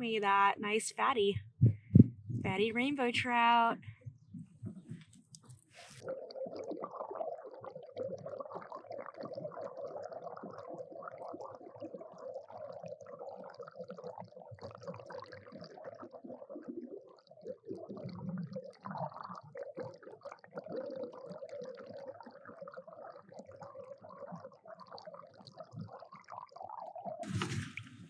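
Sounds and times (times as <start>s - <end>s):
water sloshing and bubbling: 0.0s - 28.0s.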